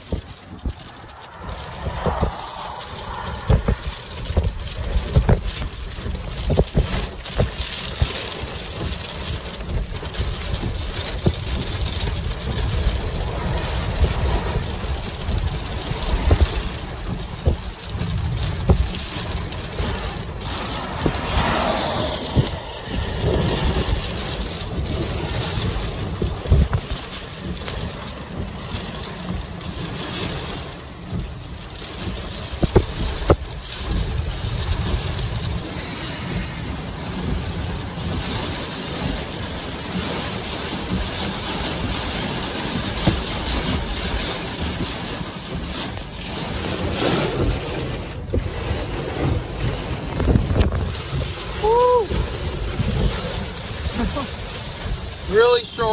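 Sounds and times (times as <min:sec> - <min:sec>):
rain blowing across car: 0:00.0 - 0:55.9
strong wind gusting against car: 0:00.0 - 0:55.9
wind rumble on microphone: 0:00.0 - 0:55.9.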